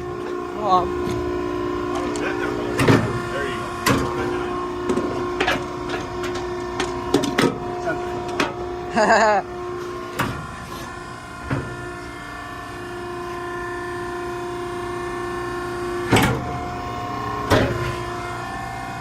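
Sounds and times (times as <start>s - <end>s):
hydraulic power unit whine: 0.0s - 19.0s.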